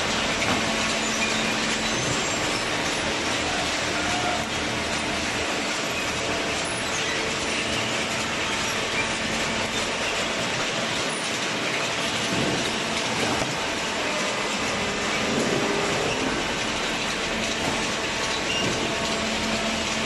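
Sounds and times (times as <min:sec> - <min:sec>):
hydraulic baler rattling: 0:00.0 - 0:20.0.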